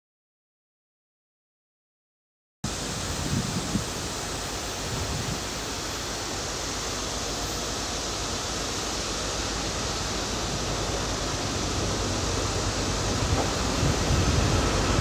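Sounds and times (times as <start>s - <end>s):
distant freight train approaching: 2.7s - 15.0s.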